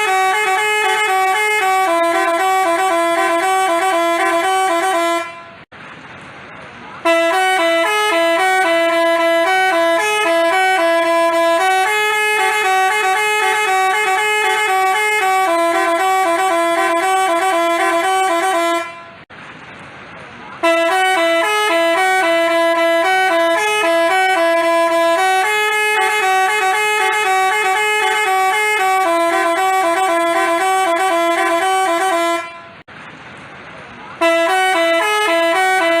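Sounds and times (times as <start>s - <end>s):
musical bus horn tune: 0.0s - 5.7s, 7.0s - 19.3s, 20.6s - 32.9s, 34.2s - 36.0s.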